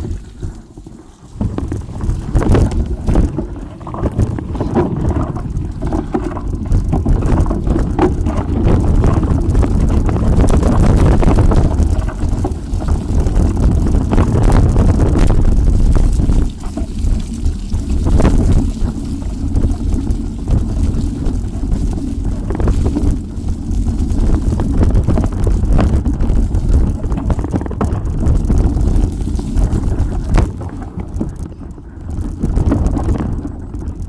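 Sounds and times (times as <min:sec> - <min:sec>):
bike rattling and knocking: 0:00.0 - 0:34.0
bike tyres rumbling: 0:00.0 - 0:34.0
wind buffeting microphone: 0:00.0 - 0:34.0.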